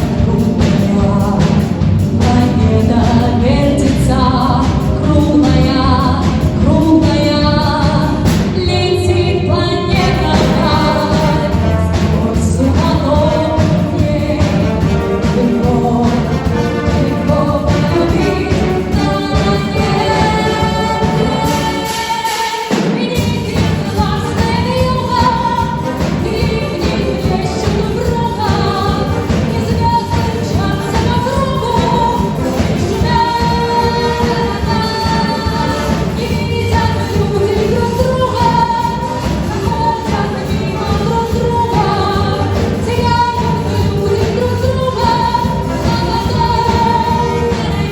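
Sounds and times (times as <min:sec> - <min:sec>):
instrumental backing: 0:00.0 - 0:47.9.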